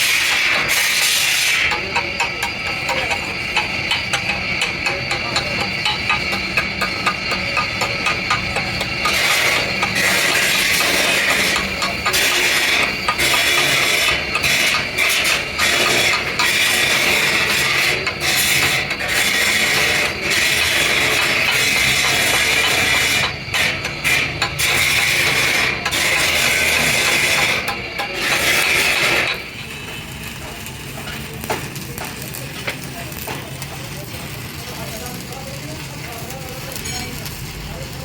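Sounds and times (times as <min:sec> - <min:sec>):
abrasive scraping on metal: 0:00.0 - 0:35.2.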